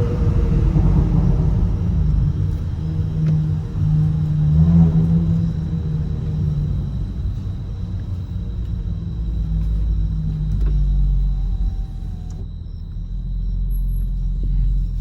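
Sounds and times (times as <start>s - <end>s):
car engine deep rumble: 0.0s - 15.0s
exhaust crackles: 0.0s - 15.0s.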